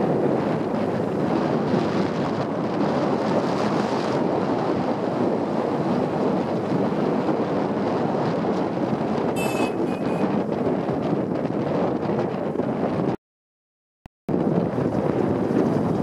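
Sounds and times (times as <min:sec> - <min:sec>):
wind buffeting microphone: 0:00.0 - 0:13.2, 0:14.3 - 0:16.0.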